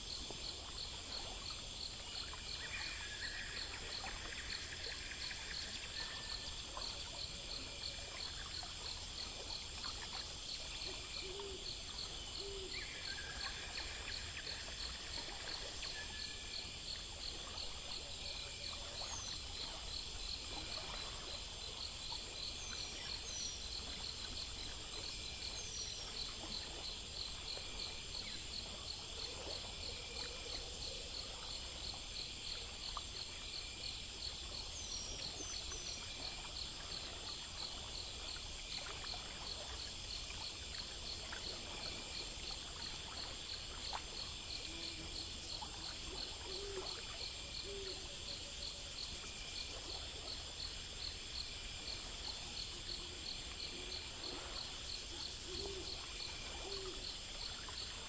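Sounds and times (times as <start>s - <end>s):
insects trilling and chirping: 0.0s - 58.0s.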